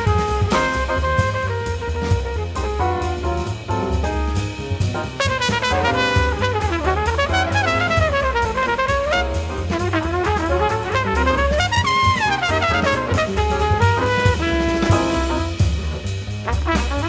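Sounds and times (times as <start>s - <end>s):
bass: 0.0s - 17.0s
brass melody: 0.0s - 17.0s
drum kit: 0.0s - 17.0s.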